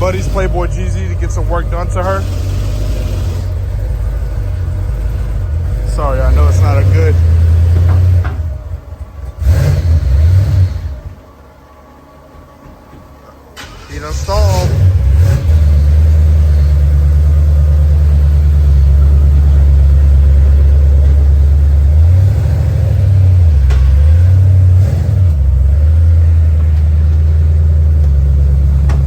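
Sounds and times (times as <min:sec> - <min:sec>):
car engine idling loudly: 0:00.0 - 0:11.3, 0:13.6 - 0:29.0.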